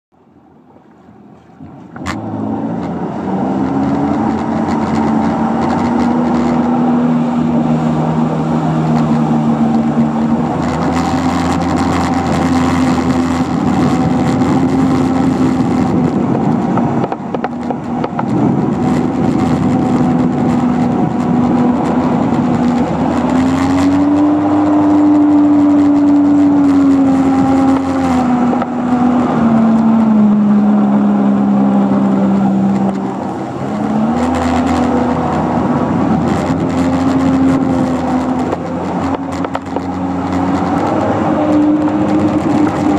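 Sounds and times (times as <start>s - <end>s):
jet ski engine whining: 0.2s - 42.9s.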